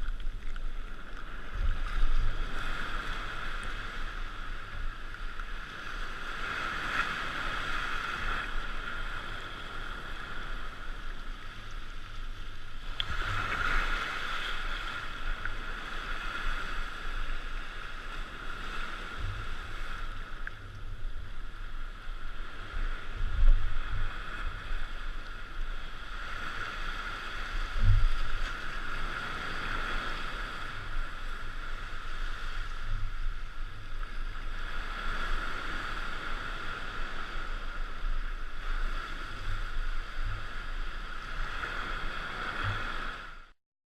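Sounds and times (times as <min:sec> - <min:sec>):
ocean surf breaking: 0:00.0 - 0:43.5.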